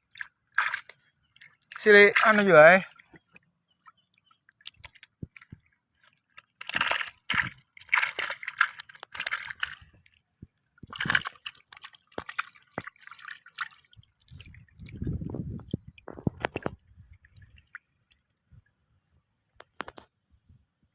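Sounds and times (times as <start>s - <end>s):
water drips: 0.0s - 18.7s
water sloshing and splashing: 0.0s - 20.1s.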